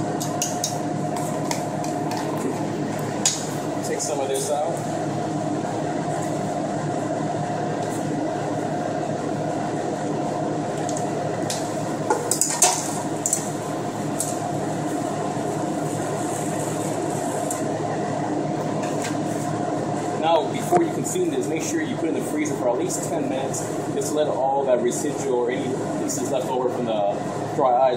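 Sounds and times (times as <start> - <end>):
steady machine hum: 0.0 - 27.9.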